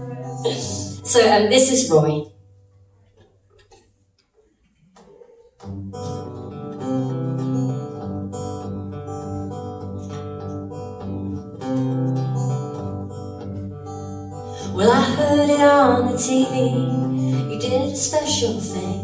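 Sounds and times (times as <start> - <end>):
acoustic guitar playing: 0.0 - 3.8, 5.1 - 19.0.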